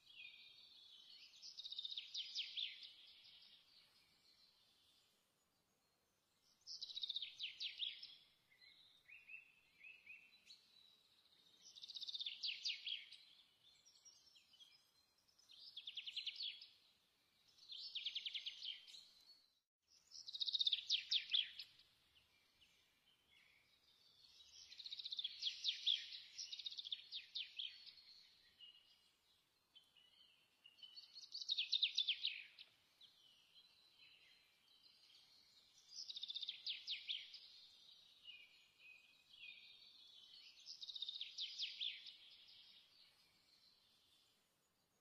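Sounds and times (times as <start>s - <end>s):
faint bird chirps: 0.0s - 45.0s.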